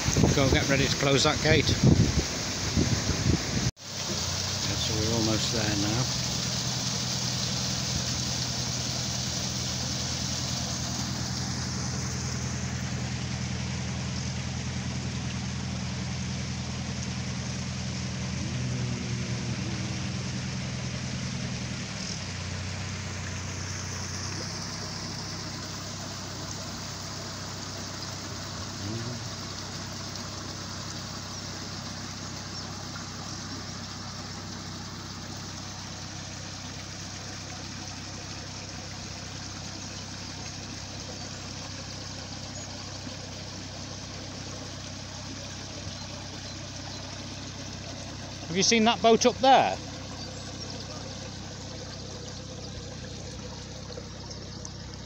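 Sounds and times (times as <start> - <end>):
water pouring through gate: 0.0 - 2.8, 3.8 - 55.0
boat engine idling: 0.0 - 55.0.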